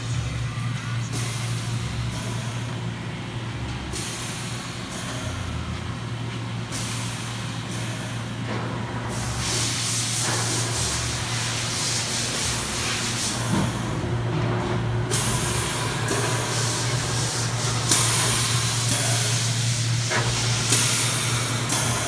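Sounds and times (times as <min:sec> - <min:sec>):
machine hissing: 0:00.0 - 0:22.0.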